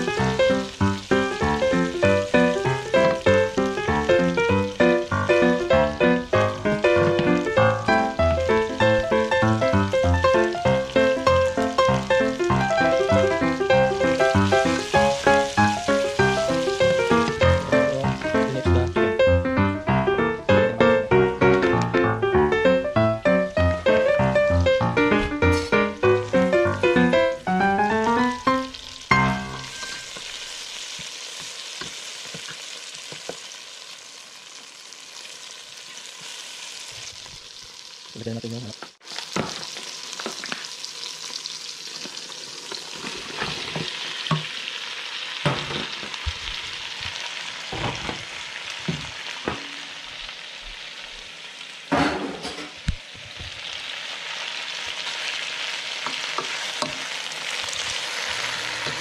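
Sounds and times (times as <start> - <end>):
chicken sizzling in a pot: 0.0 - 22.0, 22.9 - 59.0.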